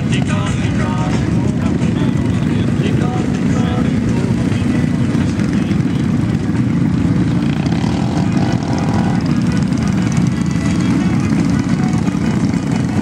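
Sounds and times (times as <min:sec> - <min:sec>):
atv engines rumbling: 0:00.0 - 0:13.0.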